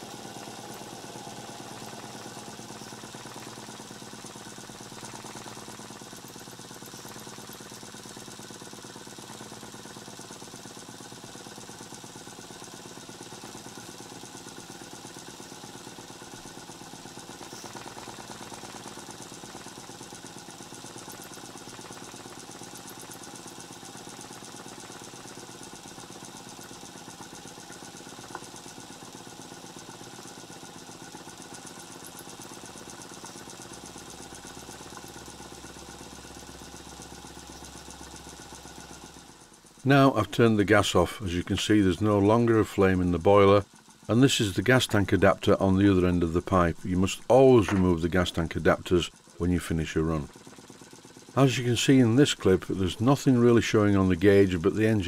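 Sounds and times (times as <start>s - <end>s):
model steam engine running: 0.0s - 55.0s.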